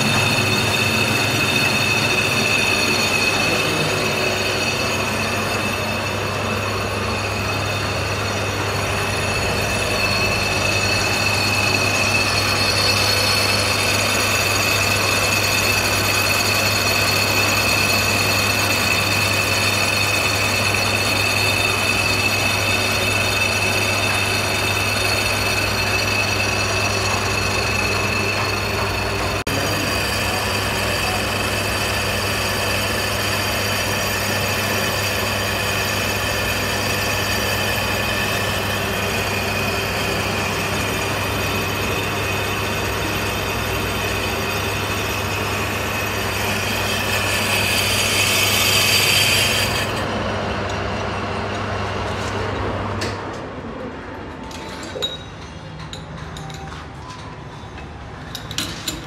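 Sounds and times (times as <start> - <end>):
cutting tool ringing whine: 0.0 - 51.7
lathe motor hum: 0.0 - 53.0.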